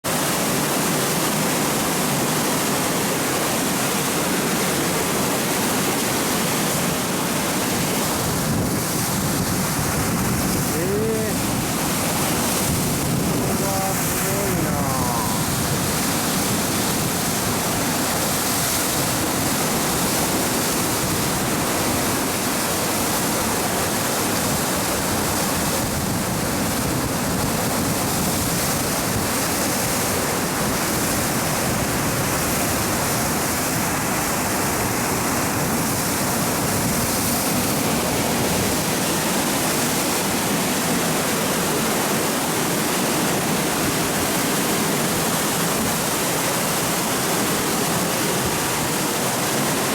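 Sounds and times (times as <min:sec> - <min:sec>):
flooded river rushing: 0:00.1 - 0:49.9.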